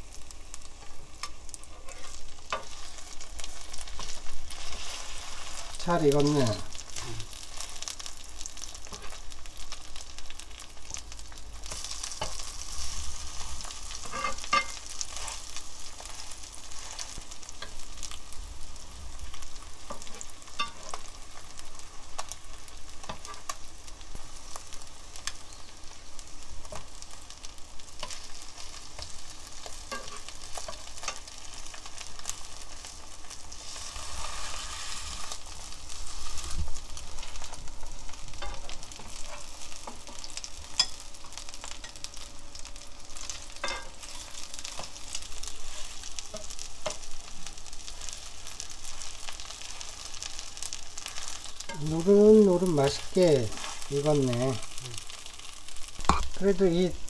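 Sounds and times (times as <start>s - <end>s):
fish fillets sizzling in oil: 0.0s - 57.0s.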